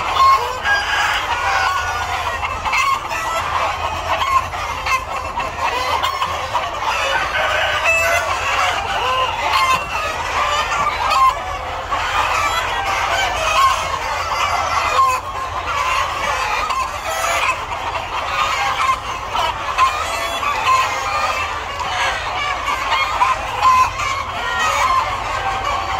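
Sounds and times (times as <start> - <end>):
flock of chickens clucking: 0.0 - 25.9.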